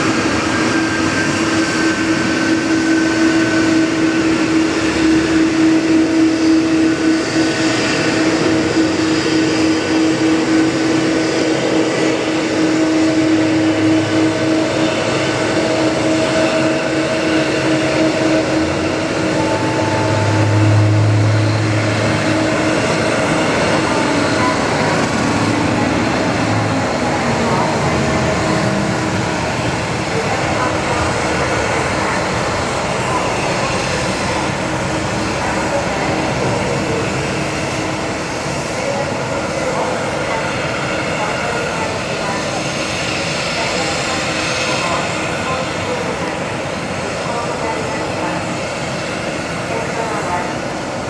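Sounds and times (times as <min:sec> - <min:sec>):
high engine whine: 0:00.0 - 0:47.7
jet engines humming: 0:00.0 - 0:51.0.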